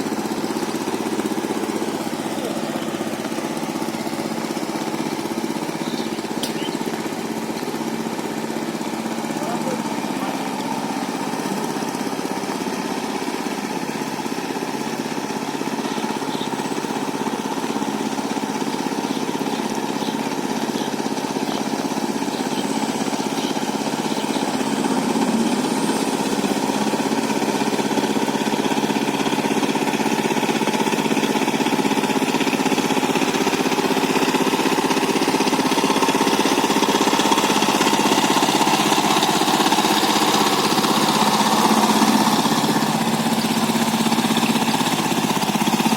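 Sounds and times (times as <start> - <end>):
power tiller diesel engine: 0.0 - 45.9.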